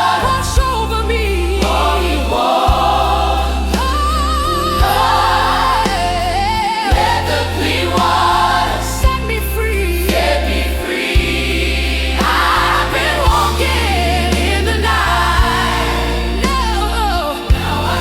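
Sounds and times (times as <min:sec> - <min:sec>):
sustained bass: 0:00.0 - 0:18.0
voices singing gospel: 0:00.0 - 0:18.0.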